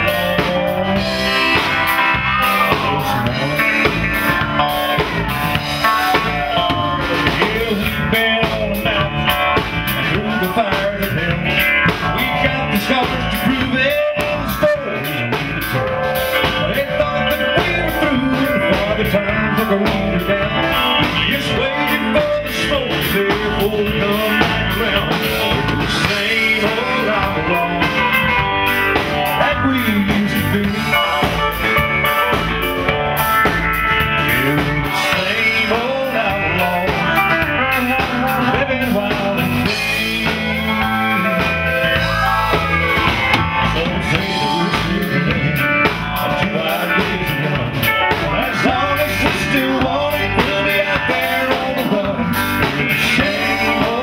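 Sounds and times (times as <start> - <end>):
man singing: 0.0 - 32.6, 33.9 - 54.0
drum kit: 0.0 - 54.0
guitars: 0.0 - 54.0.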